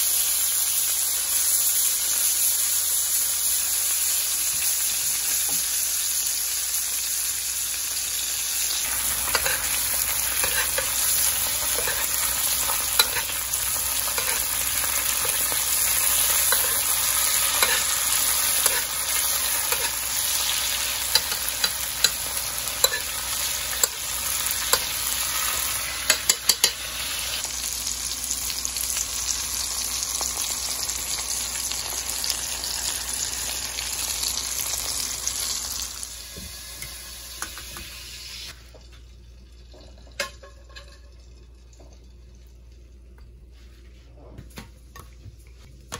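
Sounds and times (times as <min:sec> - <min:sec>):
steak sizzling in butter: 0:00.0 - 0:38.5.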